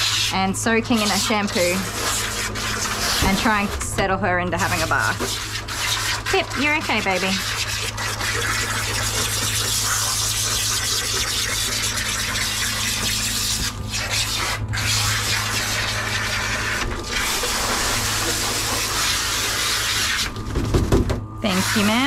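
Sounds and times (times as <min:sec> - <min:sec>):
shower sprayer hissing: 0:00.0 - 0:03.8, 0:04.5 - 0:20.4, 0:21.4 - 0:22.0
steady low hum: 0:00.0 - 0:22.0.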